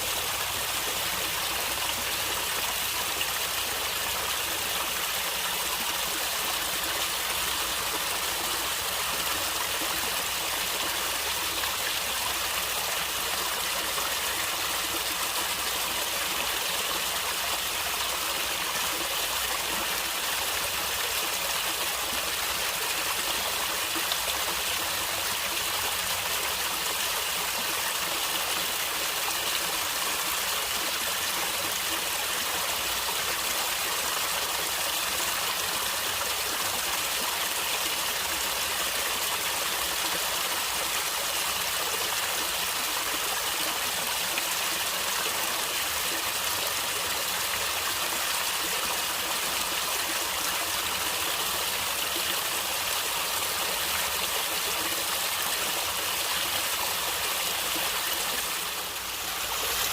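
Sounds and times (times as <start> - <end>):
stream of water gurgling: 0.0 - 59.9.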